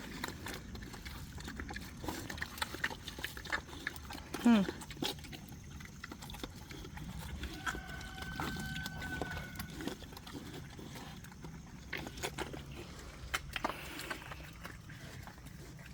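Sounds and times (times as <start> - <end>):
pigs grunting and snuffling: 0.0 - 15.9.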